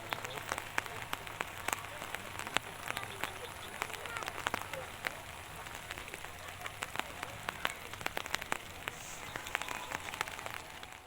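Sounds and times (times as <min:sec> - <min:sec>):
raindrops tapping on surface: 0:00.0 - 0:11.0.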